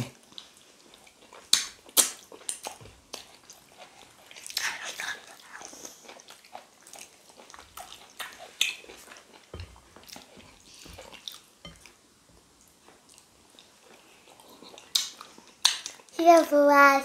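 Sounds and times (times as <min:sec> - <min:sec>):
wet chewing and lip-smacking: 0:00.2 - 0:12.0, 0:12.6 - 0:16.2.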